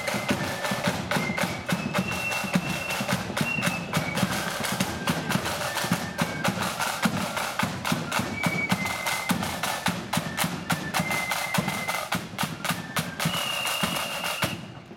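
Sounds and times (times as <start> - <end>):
rapid snare drumming: 0.0 - 14.8
flutes playing high melody: 0.0 - 14.9.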